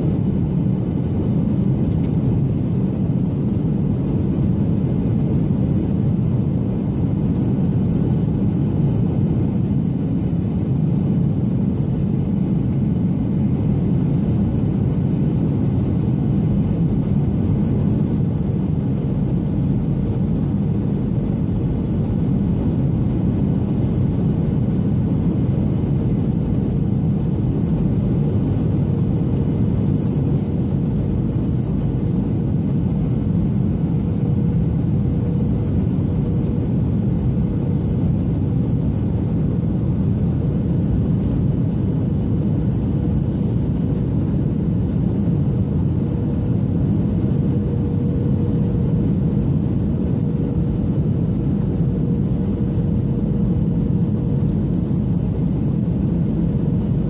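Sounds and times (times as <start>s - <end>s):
airliner cabin rumble: 0.0s - 57.0s
faint steady hum: 0.0s - 57.0s.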